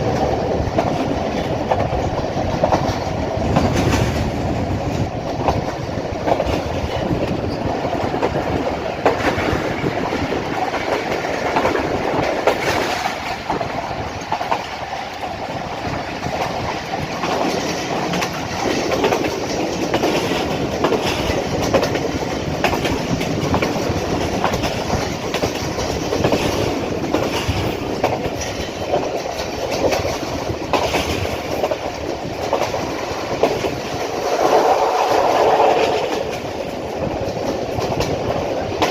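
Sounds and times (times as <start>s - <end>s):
train carriages rumbling: 0.0s - 38.9s
wheels clicking over rail joints: 0.0s - 38.9s.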